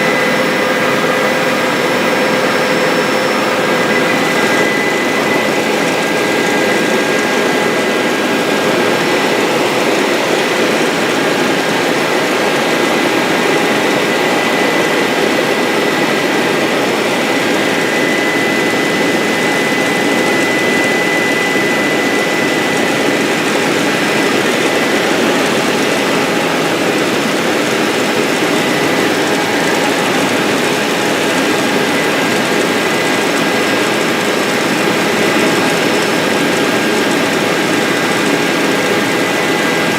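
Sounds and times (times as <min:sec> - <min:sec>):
helicopter engine and rotors: 0:00.0 - 0:39.9
thin steady whines: 0:00.0 - 0:39.9.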